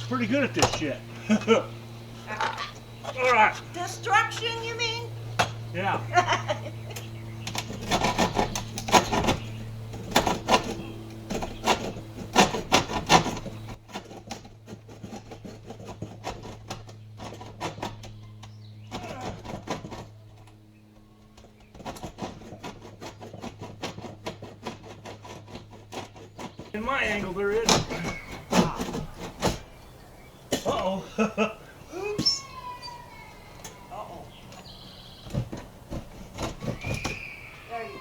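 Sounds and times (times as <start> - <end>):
saw cutting through wood: 0.0 - 20.6, 21.4 - 38.0.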